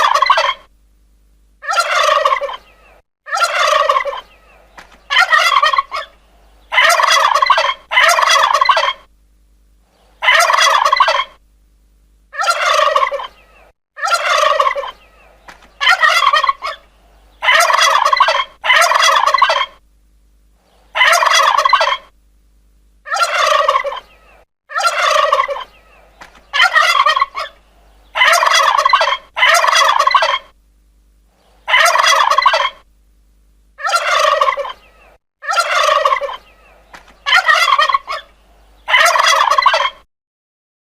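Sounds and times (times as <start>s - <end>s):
turkey gobbling: 0.0s - 0.7s, 1.6s - 9.1s, 10.2s - 11.4s, 12.3s - 19.8s, 20.9s - 22.1s, 23.1s - 30.6s, 31.6s - 32.9s, 33.8s - 40.0s.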